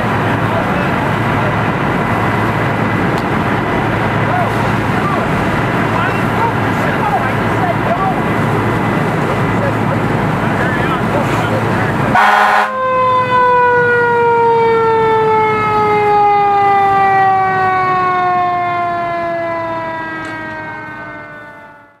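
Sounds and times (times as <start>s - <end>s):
fire engine siren winding down: 0.0s - 22.0s.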